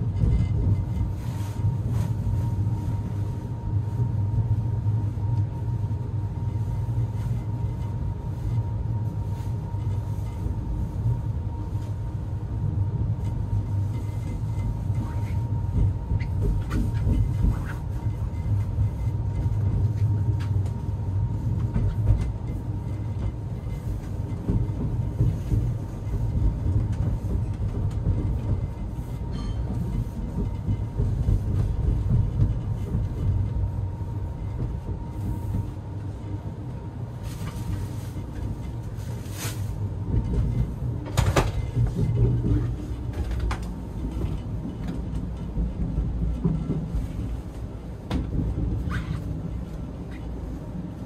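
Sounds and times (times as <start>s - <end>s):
train carriage rumble: 0.0s - 51.0s.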